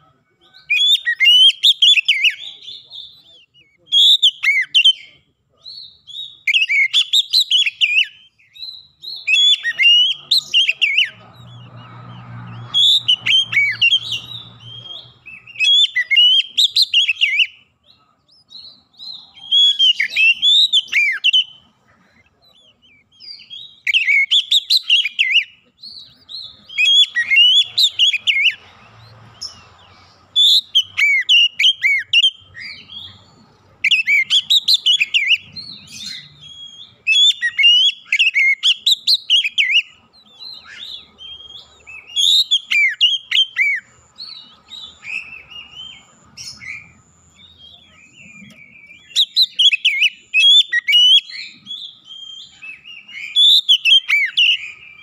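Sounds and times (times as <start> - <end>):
bird singing whistled notes: 0.4 - 21.7, 22.3 - 55.0.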